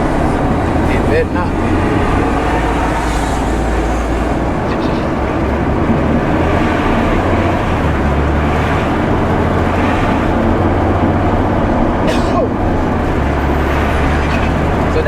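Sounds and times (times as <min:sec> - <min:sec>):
road noise: 0:00.0 - 0:15.0
truck diesel engine running: 0:00.0 - 0:15.0.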